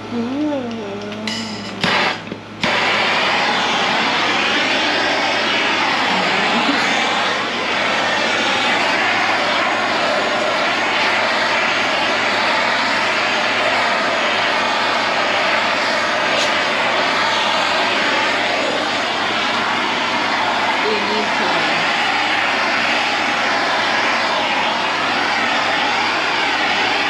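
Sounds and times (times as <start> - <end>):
blowtorch flame hissing: 1.6 - 27.0.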